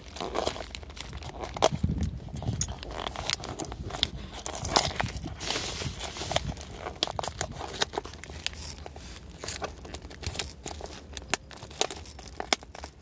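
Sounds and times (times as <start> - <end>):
plastic container and bag crinkling: 0.0 - 13.0.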